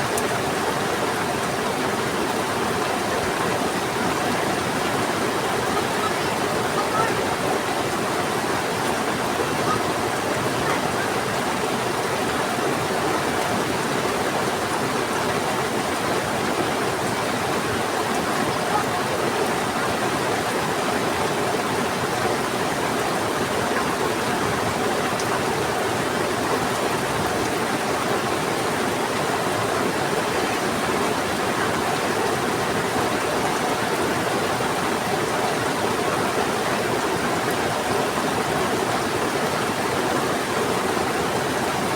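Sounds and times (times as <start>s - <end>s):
rain and rushing river: 0.0s - 41.9s.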